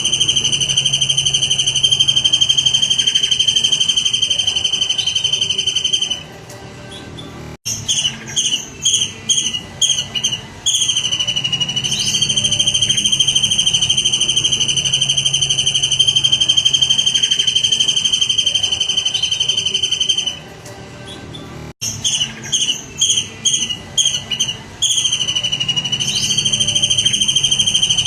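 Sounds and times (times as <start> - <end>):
songbird whistling and trilling: 0.0 - 6.3, 6.9 - 28.0.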